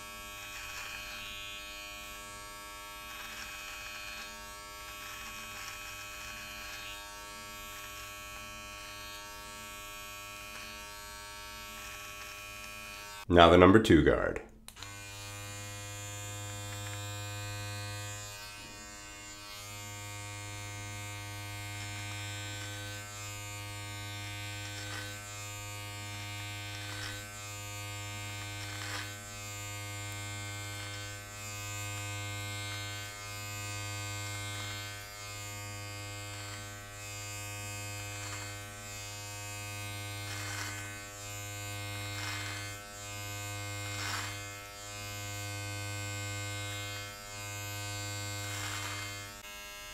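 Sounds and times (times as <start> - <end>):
electric hair trimmer buzzing: 0.0 - 13.3, 14.7 - 49.9.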